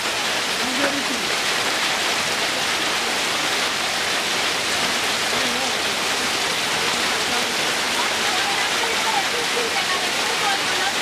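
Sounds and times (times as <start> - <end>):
heavy rain on grass: 0.0 - 11.0.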